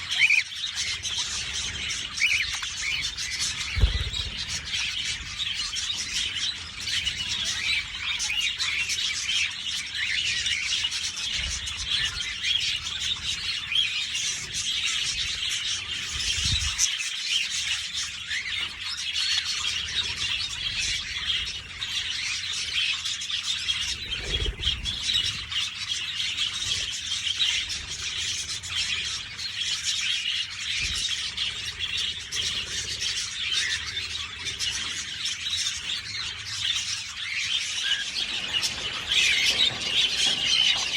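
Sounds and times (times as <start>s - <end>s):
budgies chattering and chirping: 0.0s - 40.9s.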